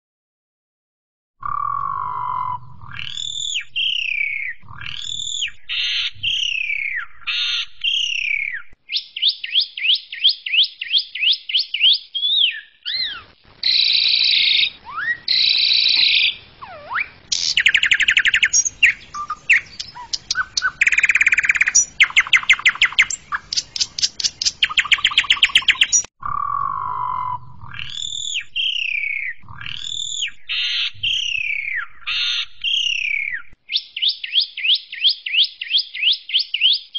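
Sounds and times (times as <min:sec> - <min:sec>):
starling singing: 0:01.4 - 0:36.8.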